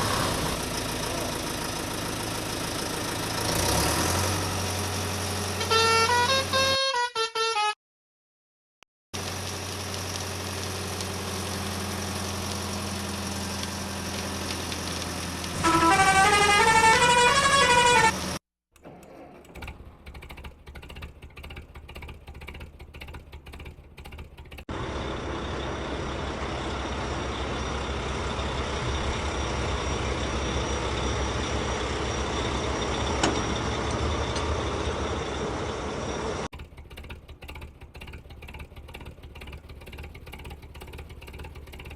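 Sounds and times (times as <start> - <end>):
engine drone: 0.0 - 6.7, 9.2 - 41.9.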